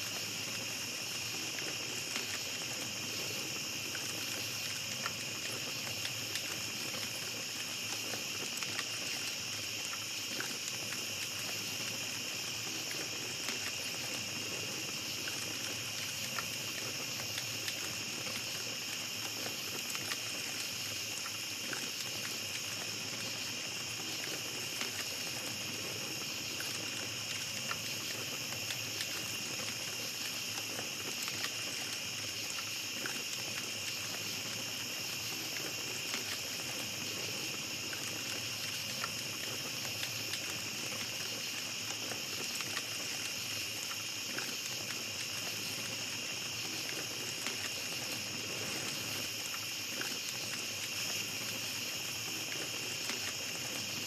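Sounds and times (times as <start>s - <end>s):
campfire crackling and popping: 0.0s - 54.0s
insect chorus: 0.0s - 54.0s.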